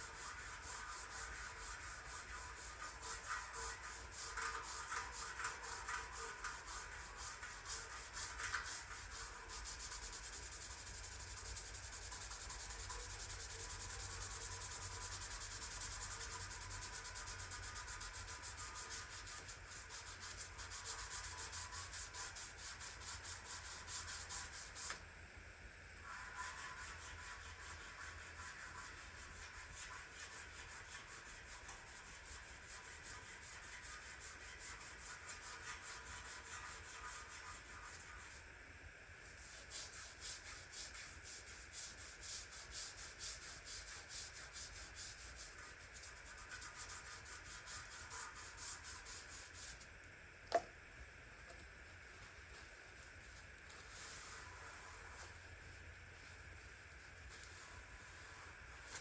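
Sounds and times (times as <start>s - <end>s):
hand scrubbing metal surface: 0.0s - 25.0s, 26.0s - 38.4s, 39.4s - 49.8s, 52.2s - 59.0s.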